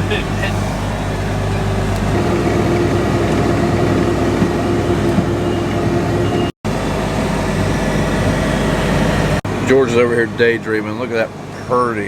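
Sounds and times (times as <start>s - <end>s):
tractor engine running under load: 0.0s - 9.7s.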